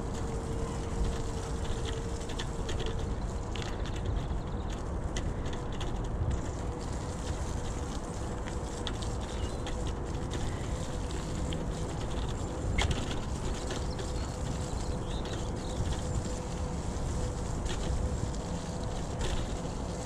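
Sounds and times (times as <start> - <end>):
bike rattle: 0.0 - 20.0
faint motor hum: 0.0 - 20.0
wind on microphone: 0.0 - 20.0.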